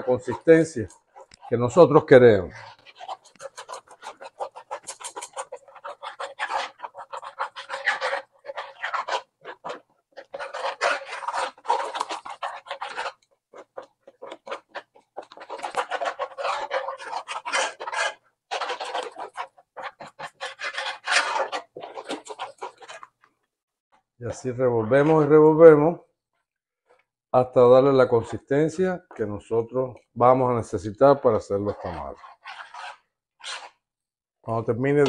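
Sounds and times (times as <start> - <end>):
metal spoon stirring batter in pot: 0.0 - 25.8, 27.0 - 35.0.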